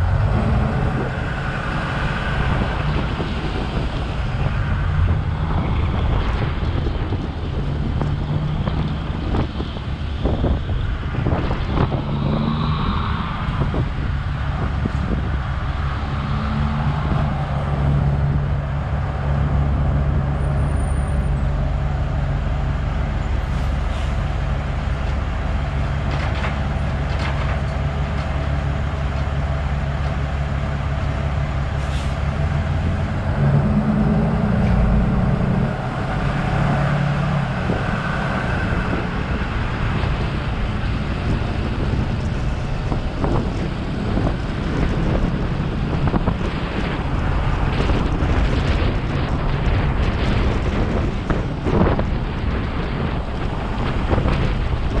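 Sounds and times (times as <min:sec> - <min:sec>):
road noise: 0:00.0 - 0:55.0
truck engine: 0:00.0 - 0:55.0
wind rushing over camera: 0:00.0 - 0:55.0.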